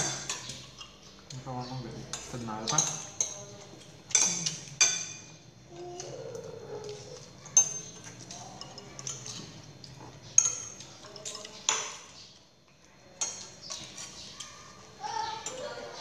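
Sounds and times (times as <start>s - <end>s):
spoons clinking on ceramic bowls: 0.0s - 1.4s, 2.0s - 16.0s.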